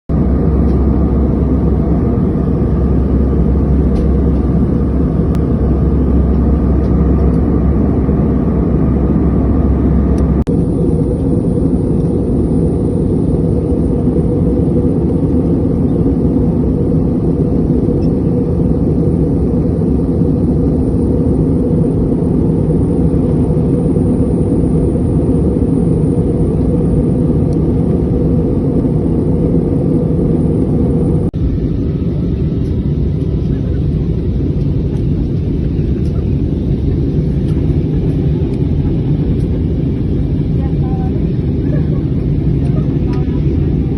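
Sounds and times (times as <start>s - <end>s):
airliner cabin engine rumble: 0.1s - 43.9s.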